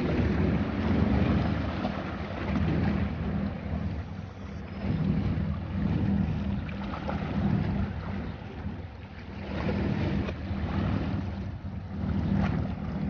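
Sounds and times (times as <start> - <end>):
boat engine running: 0.0 - 13.0
wind on microphone: 0.0 - 13.0.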